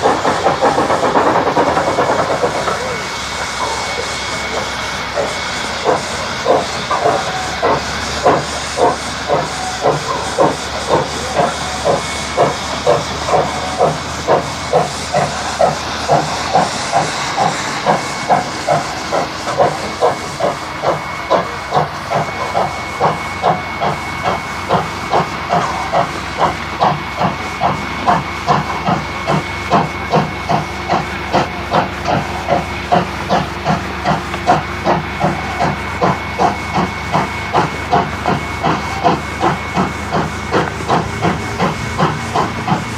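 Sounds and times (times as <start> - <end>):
faint high hiss of steam: 0.0 - 42.9
steam locomotive exhaust beats: 0.0 - 42.9.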